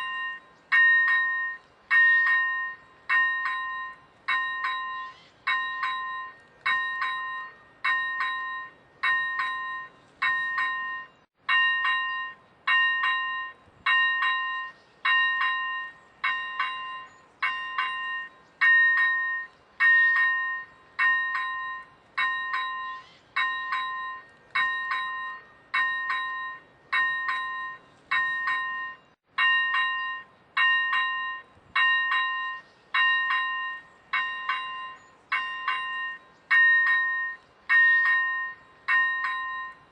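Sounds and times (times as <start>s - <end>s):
level crossing warning bell: 0.0s - 39.9s.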